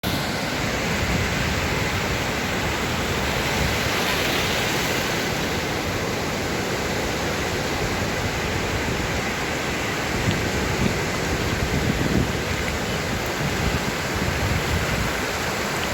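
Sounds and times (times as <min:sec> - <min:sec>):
sea waves washing on shore: 0:00.0 - 0:15.9.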